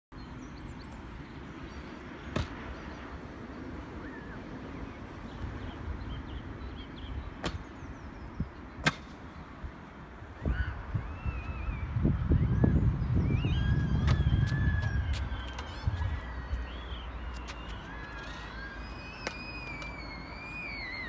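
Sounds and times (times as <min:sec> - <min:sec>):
wind rumble on microphone: 0:00.2 - 0:08.7, 0:09.4 - 0:18.5.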